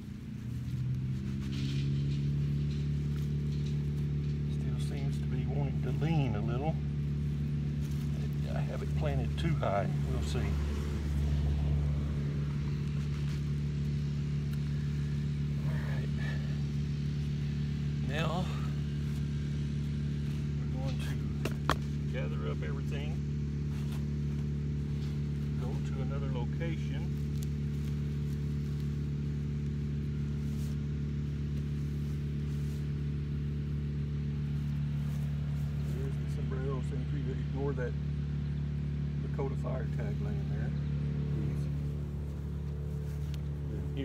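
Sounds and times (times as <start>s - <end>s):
engine running steadily: 0.0s - 44.0s.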